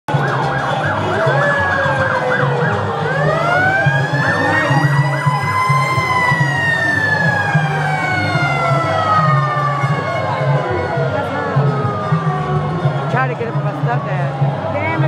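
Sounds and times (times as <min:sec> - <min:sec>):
police sirens yelping and wailing: 0:00.1 - 0:15.0.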